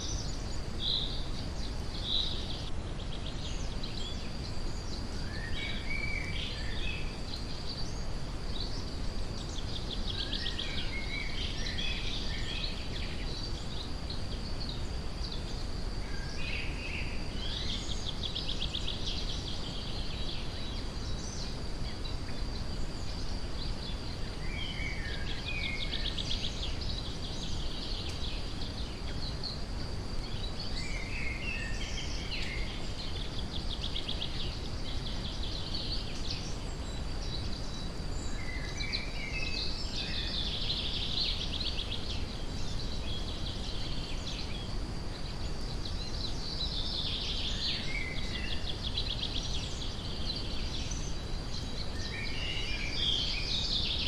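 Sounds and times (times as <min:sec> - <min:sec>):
deep hiss: 0:00.0 - 0:54.0
songbirds chirping and trilling: 0:00.0 - 0:54.0.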